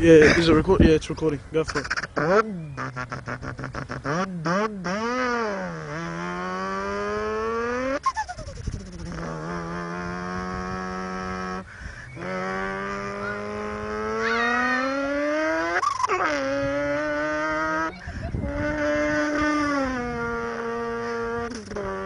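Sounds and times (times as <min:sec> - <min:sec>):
man imitating revving car engine: 0:00.0 - 0:00.9, 0:01.5 - 0:22.0.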